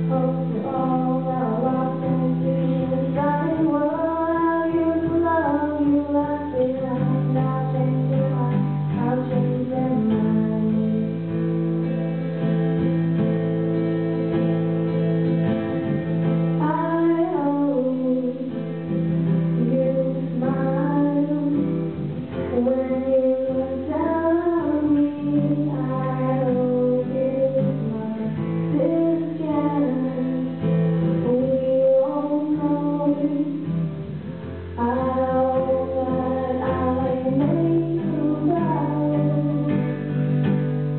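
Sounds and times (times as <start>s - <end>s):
girl singing into a microphone: 0.0s - 11.5s, 16.6s - 40.6s
acoustic guitars strummed: 0.0s - 40.9s.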